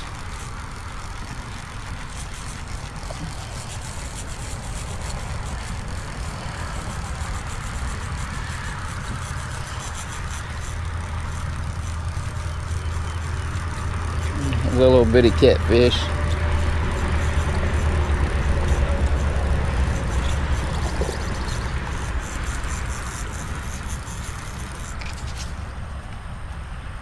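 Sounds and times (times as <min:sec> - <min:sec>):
highway traffic rumble: 0:00.0 - 0:27.0.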